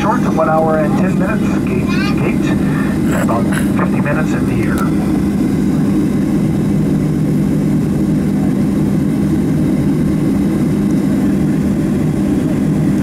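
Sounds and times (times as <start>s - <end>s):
airplane cabin drone: 0.0s - 13.0s.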